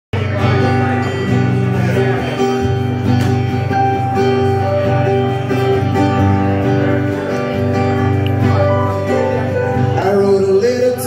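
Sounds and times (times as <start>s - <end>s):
acoustic guitar strumming: 0.2s - 11.0s
electric keyboard chords: 0.2s - 11.0s.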